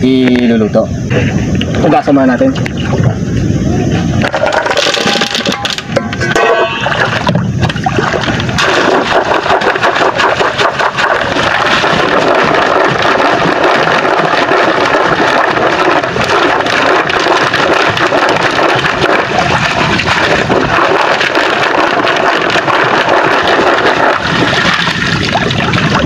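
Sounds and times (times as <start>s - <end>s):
water splashing and sloshing: 4.2s - 26.0s.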